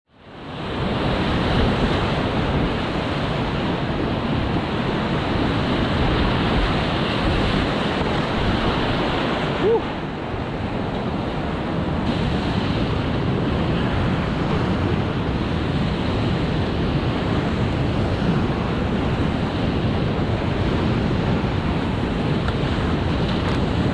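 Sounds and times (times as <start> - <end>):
rushing river water: 0.1 - 23.9.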